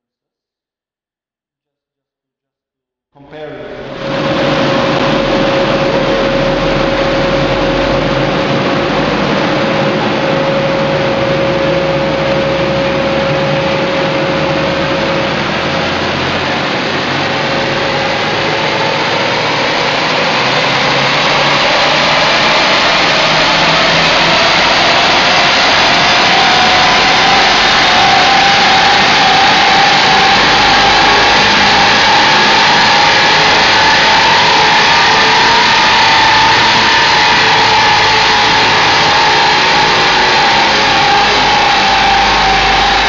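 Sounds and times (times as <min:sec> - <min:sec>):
car engine at high speed: 0:03.7 - 0:43.0
tyres spinning on rollers: 0:04.0 - 0:43.0.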